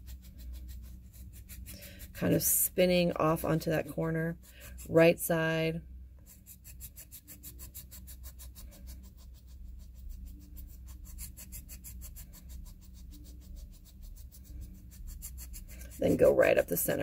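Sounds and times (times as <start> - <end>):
file strokes on reed: 0.0 - 5.3, 6.3 - 17.0
steady low hum: 0.0 - 17.0.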